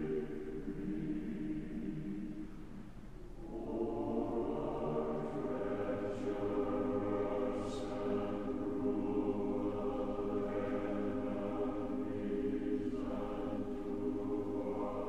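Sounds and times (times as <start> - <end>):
choir singing sustained chords: 0.0 - 15.0.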